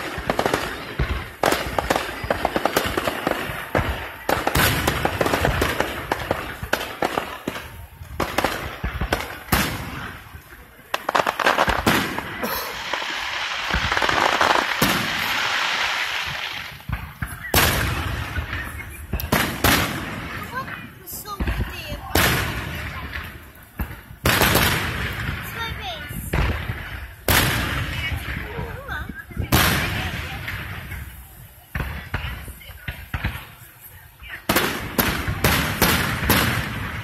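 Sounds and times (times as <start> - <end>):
fireworks bangs and pops: 0.0 - 37.0
fireworks crackling hiss: 0.0 - 37.0.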